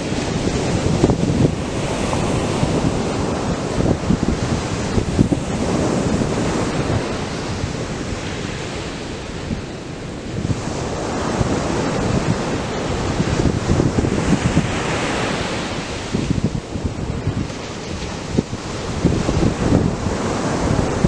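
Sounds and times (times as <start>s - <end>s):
surf breaking on beach: 0.0s - 21.0s
wind buffeting microphone: 0.0s - 21.0s.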